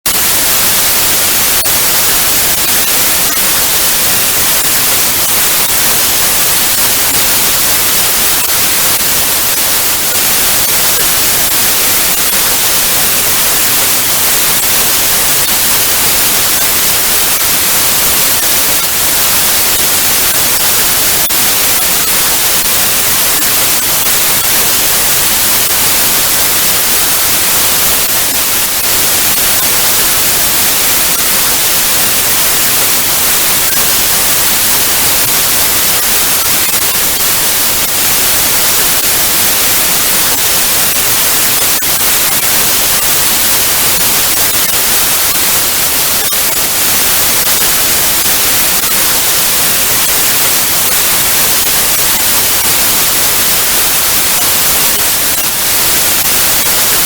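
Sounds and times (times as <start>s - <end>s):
television static hiss: 0.0s - 57.0s.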